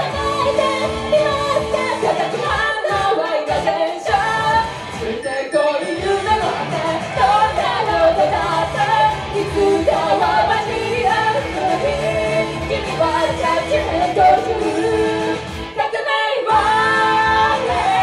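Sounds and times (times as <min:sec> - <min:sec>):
pop backing track: 0:00.0 - 0:18.0
women singing: 0:00.0 - 0:18.0.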